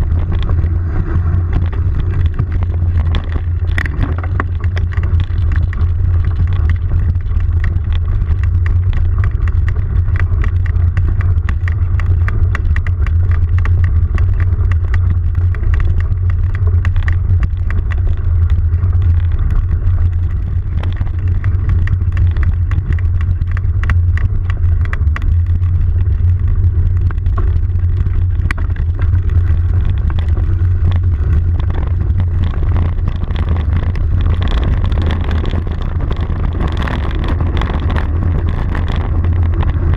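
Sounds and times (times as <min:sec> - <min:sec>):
clicks and rattles from riding: 0:00.0 - 0:39.9
wind rumble on microphone: 0:00.0 - 0:39.9.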